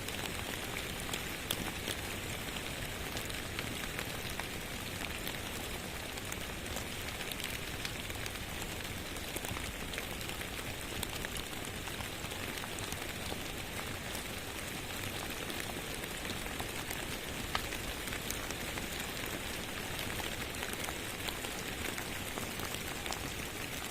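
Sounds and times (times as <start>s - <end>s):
steady rain hiss: 0.0s - 23.9s.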